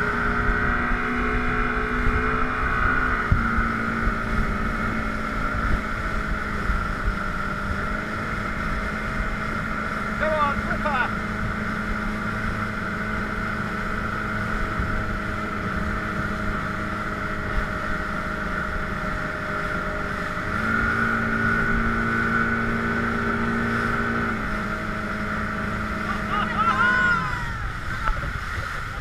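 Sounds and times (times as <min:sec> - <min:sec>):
outboard motor running: 0:00.0 - 0:29.0
rush of boat wake: 0:00.0 - 0:29.0.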